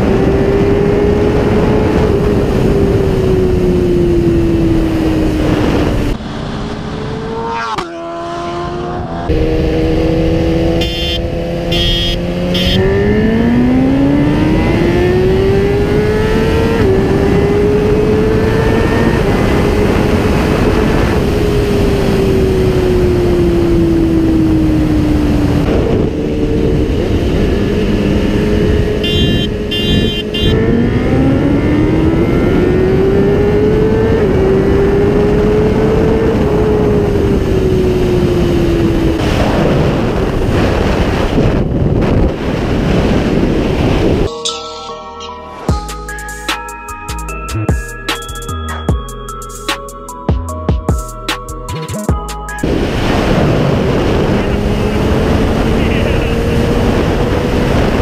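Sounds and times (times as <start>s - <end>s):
motorcycle engine accelerating: 0.0s - 44.3s, 52.6s - 58.0s
wind rushing: 0.0s - 44.3s, 52.6s - 58.0s.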